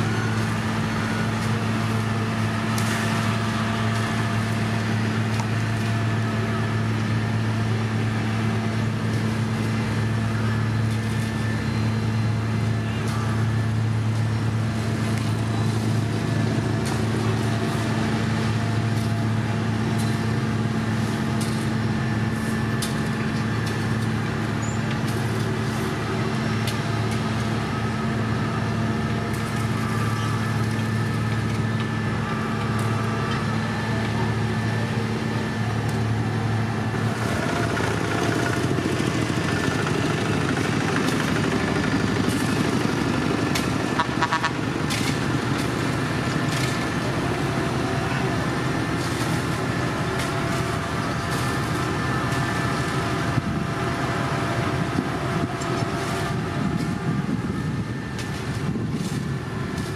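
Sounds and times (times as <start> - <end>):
heavy diesel machinery engine drone: 0.0 - 59.9.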